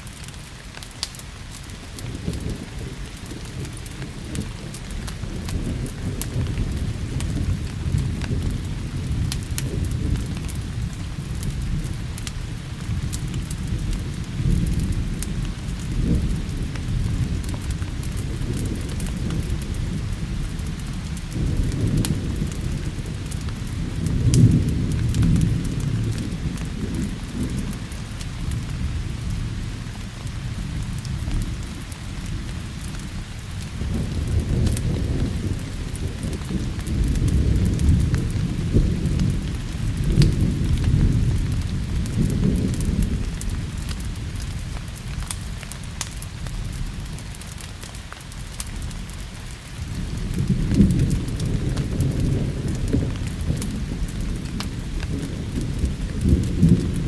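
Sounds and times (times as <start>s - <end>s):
steady rain: 0.0s - 57.0s
wood fire crackling: 0.0s - 57.0s
thunder rumbling: 1.6s - 57.0s.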